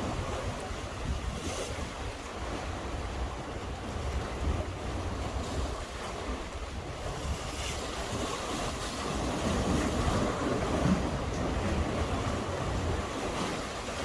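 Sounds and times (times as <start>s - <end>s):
sea swell against breakwater: 0.0s - 14.0s
wind buffeting microphone: 0.0s - 14.0s.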